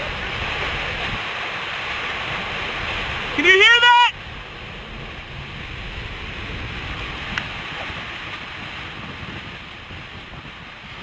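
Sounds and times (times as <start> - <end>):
strong wind: 0.0 - 11.0
tornado roar: 0.0 - 11.0.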